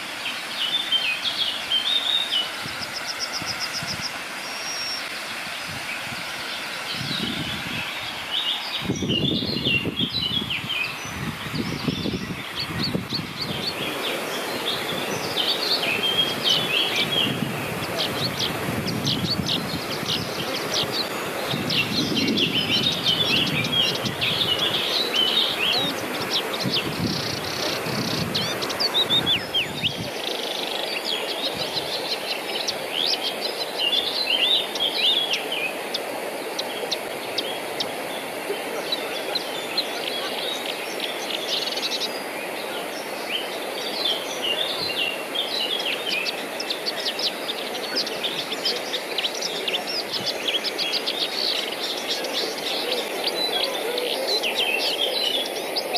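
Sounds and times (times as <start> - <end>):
songbirds chirping and singing: 0.0 - 55.9.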